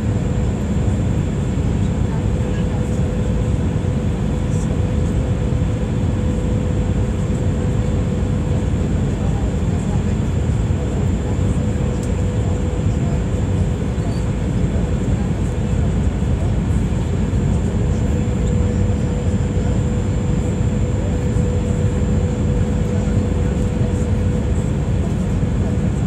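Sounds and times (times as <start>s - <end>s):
airliner engine hum: 0.0s - 26.0s.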